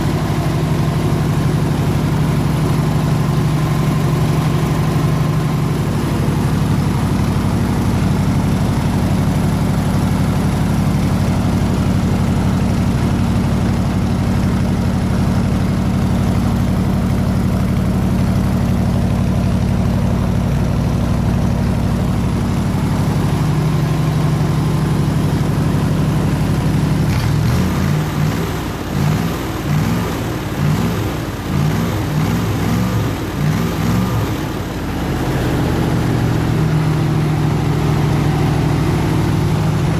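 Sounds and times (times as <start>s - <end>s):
air compressor engine running: 0.0s - 39.9s.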